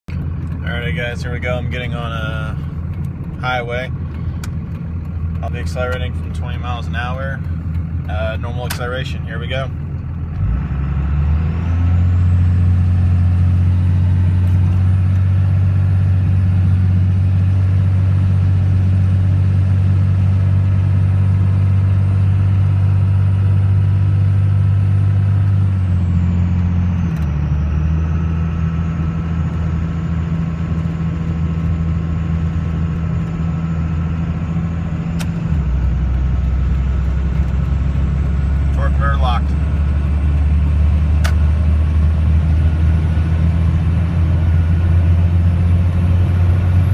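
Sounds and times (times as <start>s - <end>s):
diesel engine accelerating: 0.0s - 46.9s.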